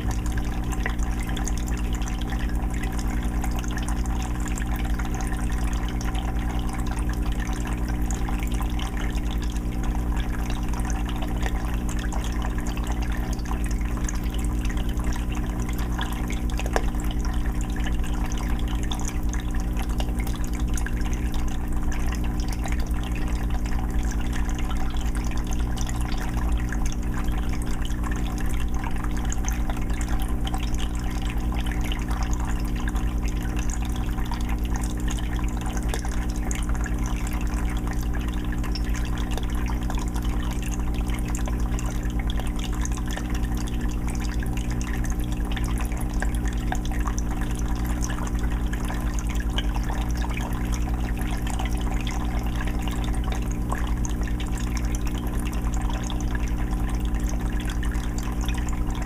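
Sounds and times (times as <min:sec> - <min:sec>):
filter humming: 0:00.0 - 0:59.0
water bubbling and dripping: 0:00.0 - 0:59.0.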